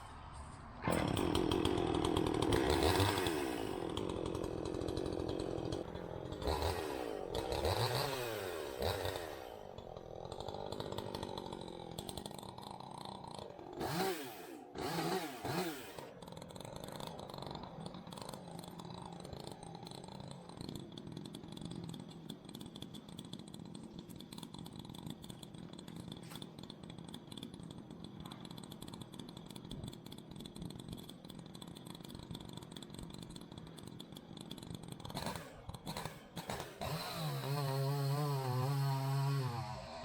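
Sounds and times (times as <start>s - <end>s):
chainsaw running: 0.4s - 40.0s.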